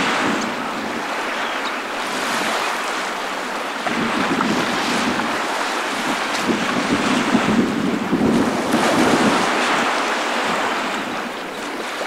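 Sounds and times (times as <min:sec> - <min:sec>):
small waves breaking ashore: 0:00.0 - 0:12.0
wind buffeting microphone: 0:00.0 - 0:12.0.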